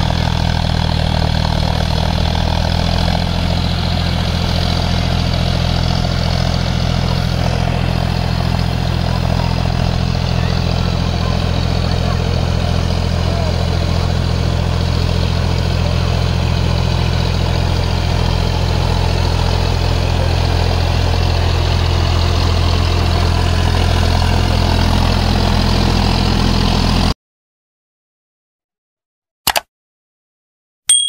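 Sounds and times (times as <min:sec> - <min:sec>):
tractor diesel engine running: 0:00.0 - 0:27.1.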